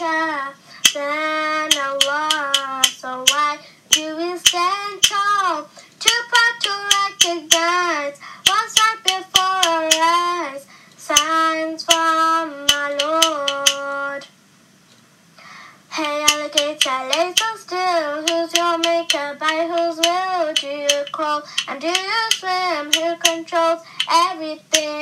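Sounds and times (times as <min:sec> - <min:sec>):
child singing: 0:00.0 - 0:14.3, 0:15.9 - 0:25.0.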